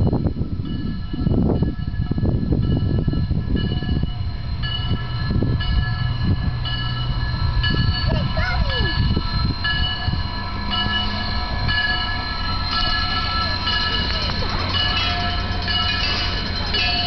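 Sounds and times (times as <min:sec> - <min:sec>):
heavy low rumble: 0:00.0 - 0:17.0.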